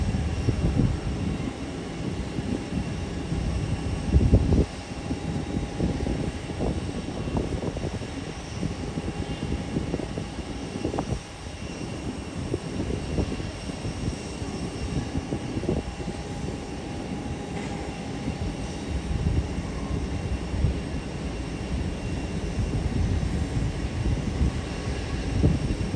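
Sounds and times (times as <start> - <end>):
jet engines roaring: 0.0 - 25.9.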